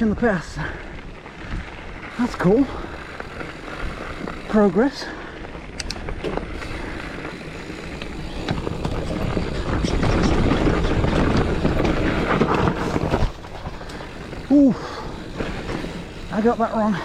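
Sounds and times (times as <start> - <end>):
bike rattling over bumps: 0.0 - 17.0
bike tyres rumbling on dirt: 0.0 - 17.0.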